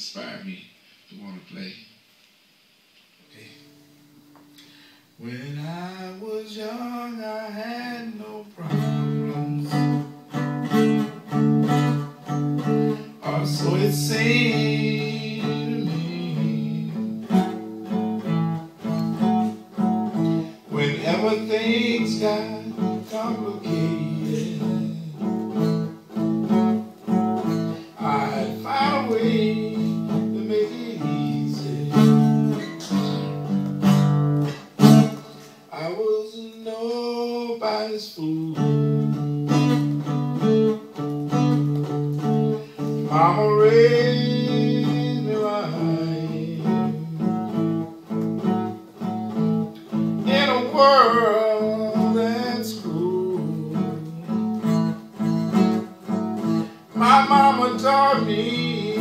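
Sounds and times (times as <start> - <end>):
blues guitar: 3.2 - 59.0.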